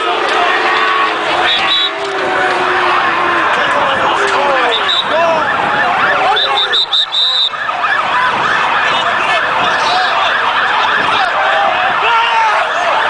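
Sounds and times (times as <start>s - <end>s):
emergency vehicle sirens: 0.0s - 13.0s.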